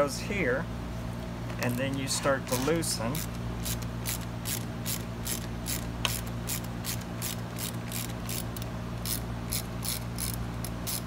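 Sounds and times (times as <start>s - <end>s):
ratchet clicking: 1.6s - 11.0s.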